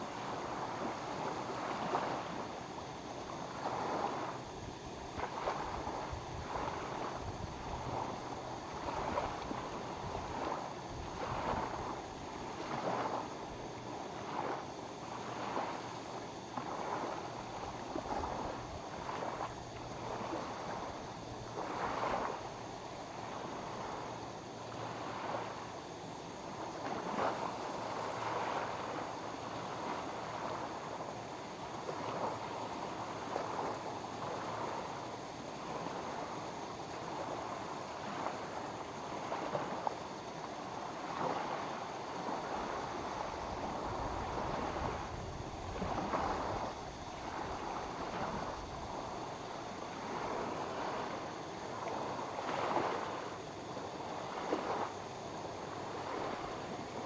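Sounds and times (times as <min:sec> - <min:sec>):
small waves lapping on shore: 0:00.0 - 0:57.0.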